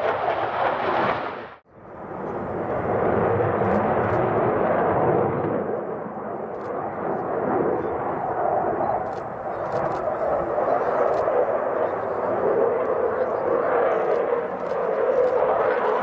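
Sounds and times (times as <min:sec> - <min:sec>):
aircraft engine roar: 0:00.0 - 0:16.0.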